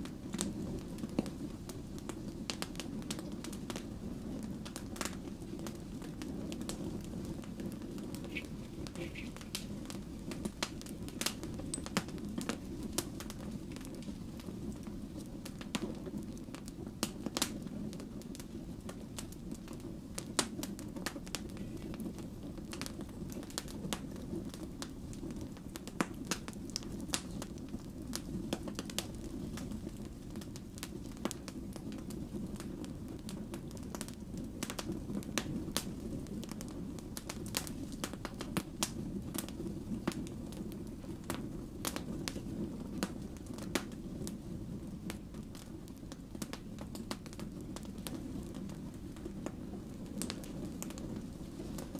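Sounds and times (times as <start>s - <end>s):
burning logs crackling and popping: 0.0s - 51.9s
flames rumbling: 0.0s - 51.9s.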